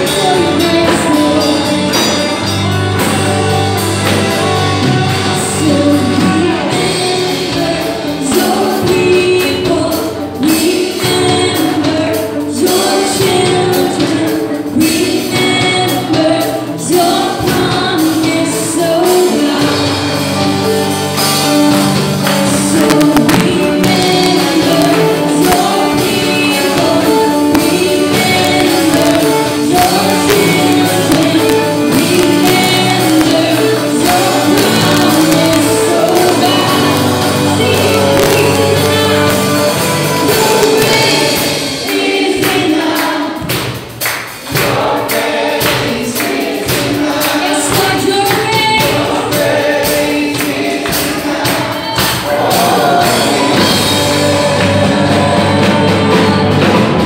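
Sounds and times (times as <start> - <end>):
drum hits: 0.0 - 57.0
voices singing together: 0.0 - 57.0
worship band playing: 0.0 - 57.0.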